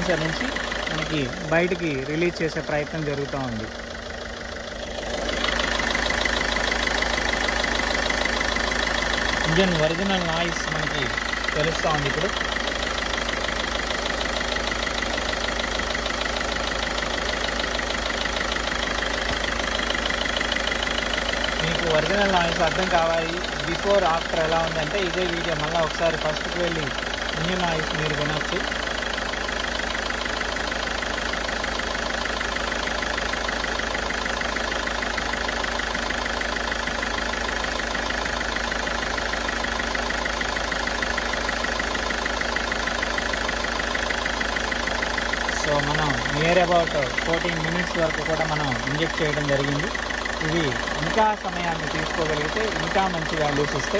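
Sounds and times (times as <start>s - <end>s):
diesel engine idling with ticking: 0.0s - 53.9s.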